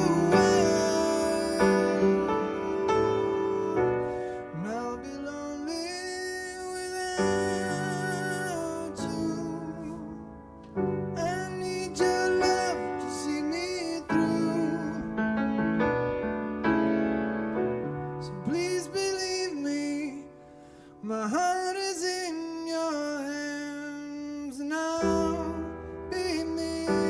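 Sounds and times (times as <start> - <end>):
man singing: 0.0 - 10.3, 11.1 - 15.4, 18.2 - 27.0
piano chords: 0.0 - 27.0.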